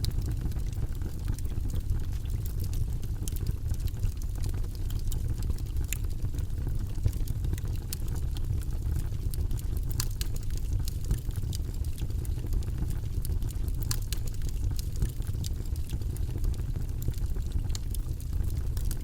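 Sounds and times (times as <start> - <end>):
campfire flames rumbling: 0.0 - 19.0
fire popping and snapping: 0.0 - 19.0.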